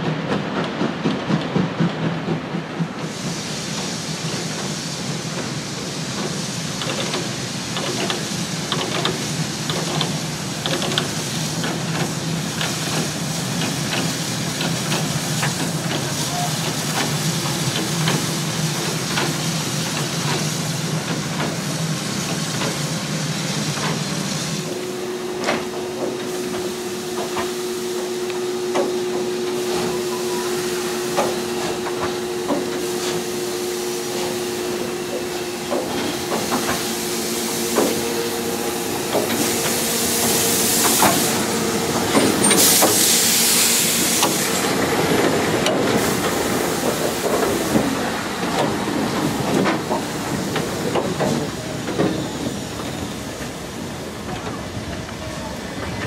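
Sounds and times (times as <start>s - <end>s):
moving train rushing: 0.0s - 56.0s
steam locomotive hissing steam: 0.0s - 56.0s.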